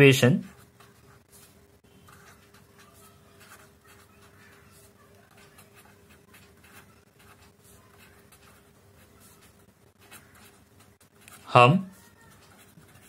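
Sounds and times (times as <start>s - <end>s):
pen scratching on paper: 0.4s - 13.0s.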